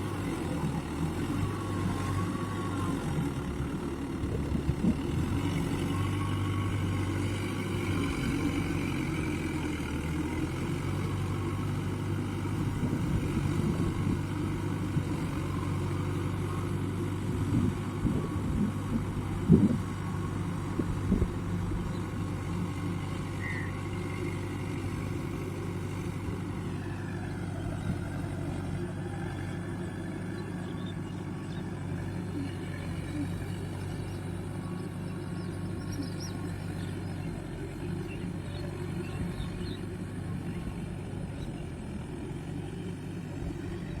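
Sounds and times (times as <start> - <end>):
diesel tractor engine running: 0.0 - 44.0.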